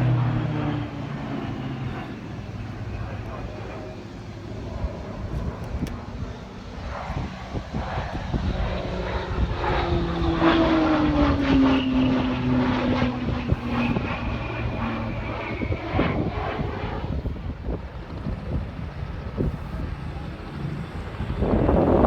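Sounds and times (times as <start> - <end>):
aircraft engine flying past: 0.0 - 22.0.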